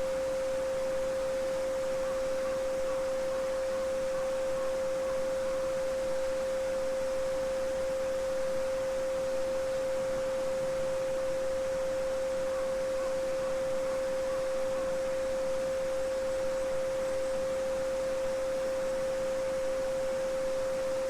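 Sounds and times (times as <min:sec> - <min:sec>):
steady sine tone: 0:00.0 - 0:21.0.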